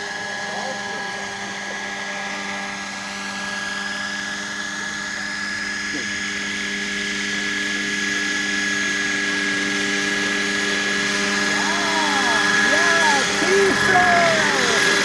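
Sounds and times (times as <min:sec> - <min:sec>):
model helicopter whine: 0:00.0 - 0:15.0.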